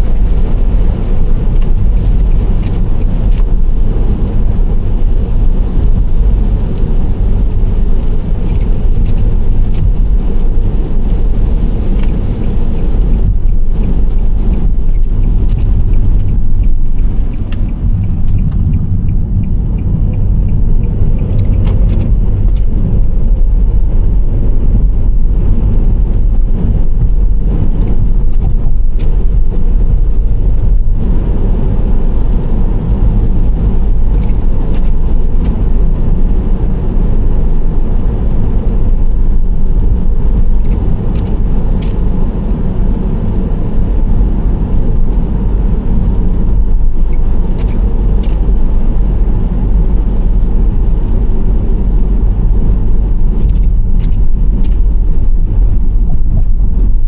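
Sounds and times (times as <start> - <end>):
car engine hum: 0.0 - 57.0
tyre and road noise: 0.0 - 57.0.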